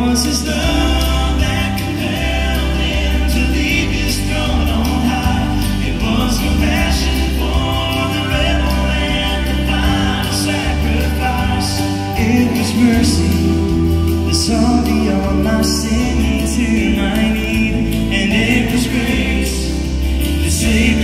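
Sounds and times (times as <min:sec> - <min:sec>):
acoustic guitars strumming: 0:00.0 - 0:21.0
bass line: 0:00.0 - 0:21.0
people singing gospel: 0:00.0 - 0:21.0.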